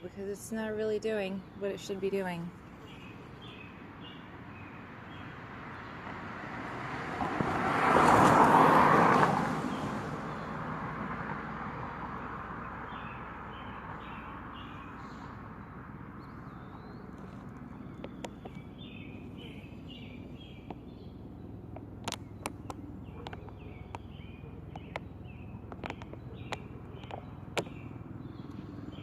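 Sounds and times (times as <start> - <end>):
vehicle passing by: 2.1 - 29.0.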